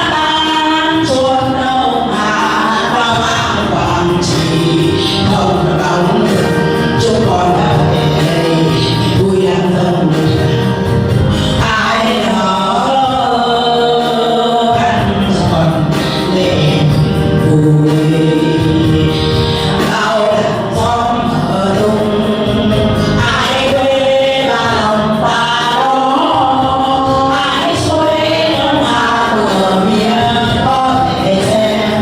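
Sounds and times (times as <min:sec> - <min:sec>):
voices singing with accompaniment: 0:00.0 - 0:32.0.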